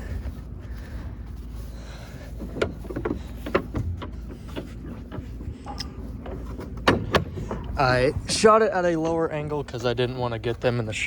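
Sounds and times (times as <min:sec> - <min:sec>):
air conditioner unit humming: 0:00.0 - 0:11.0.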